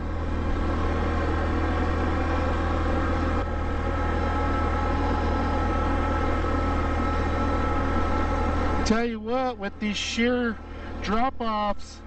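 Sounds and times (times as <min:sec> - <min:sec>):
atv engine under load: 0:00.0 - 0:12.0.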